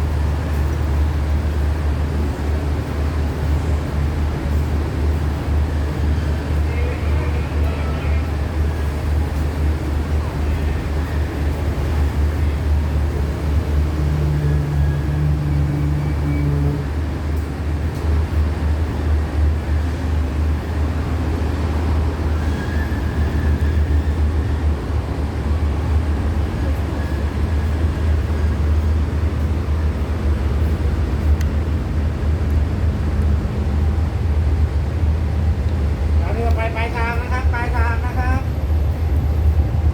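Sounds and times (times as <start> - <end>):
diesel train rumbling: 0.0 - 39.9.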